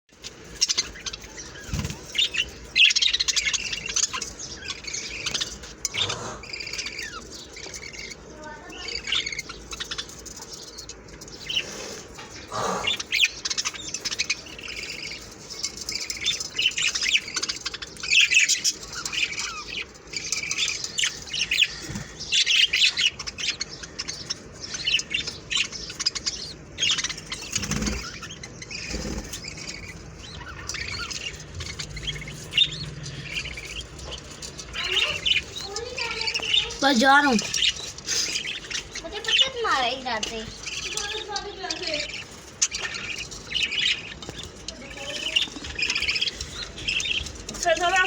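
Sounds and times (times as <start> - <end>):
parrots chirping and chattering: 0.1 - 48.0.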